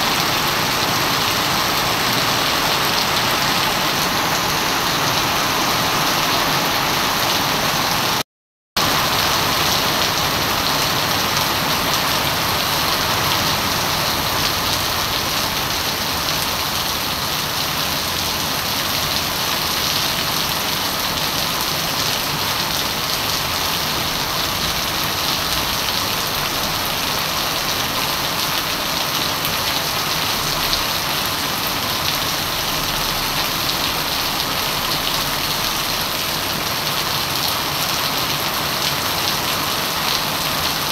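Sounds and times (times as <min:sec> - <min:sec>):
heavy rain on wet pavement: 0:00.0 - 0:08.2, 0:08.8 - 0:40.9.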